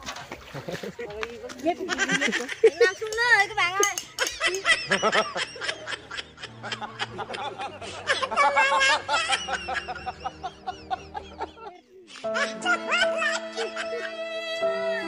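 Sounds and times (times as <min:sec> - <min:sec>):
men laughing: 0:00.4 - 0:15.0.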